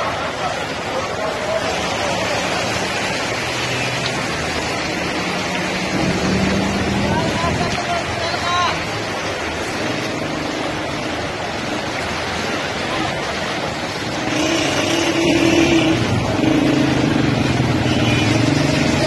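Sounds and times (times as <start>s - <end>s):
rushing water and rain: 0.0s - 19.0s.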